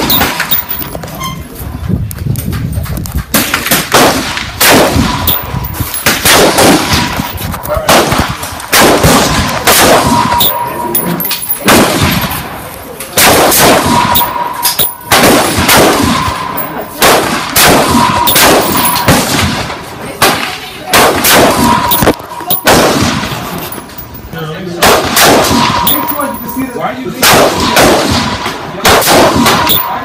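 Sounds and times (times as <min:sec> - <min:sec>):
rifle shots echoing: 0:00.0 - 0:00.9, 0:03.3 - 0:24.0, 0:24.7 - 0:30.0.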